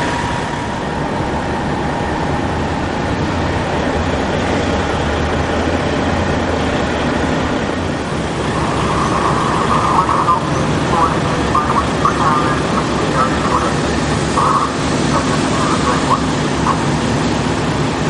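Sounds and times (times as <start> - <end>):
diesel engines rumbling: 0.0 - 18.0.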